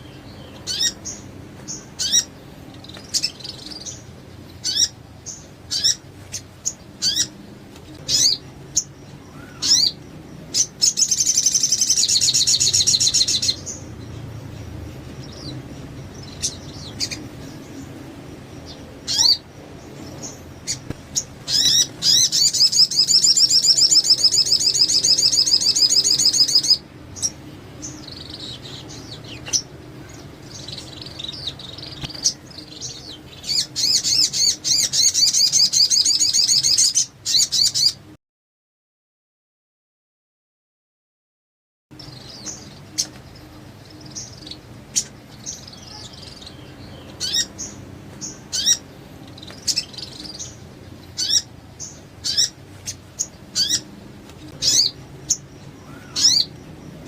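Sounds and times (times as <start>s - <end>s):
songbird chirping and trilling: 0.0s - 38.2s, 41.9s - 57.0s.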